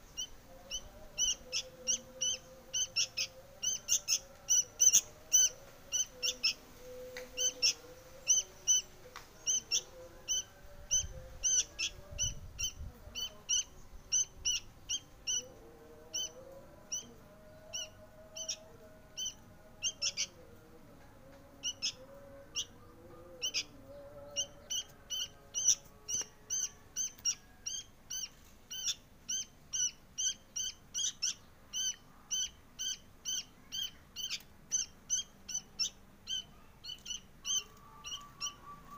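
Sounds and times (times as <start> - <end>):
fledgling begging chirps: 0.0 - 20.6, 21.5 - 38.9.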